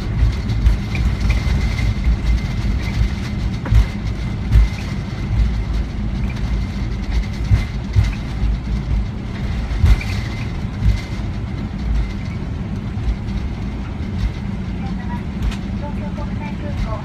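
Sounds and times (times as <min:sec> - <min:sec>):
wheels thumping over pavement: 0:00.0 - 0:14.6
airplane cabin rumble: 0:00.0 - 0:17.0.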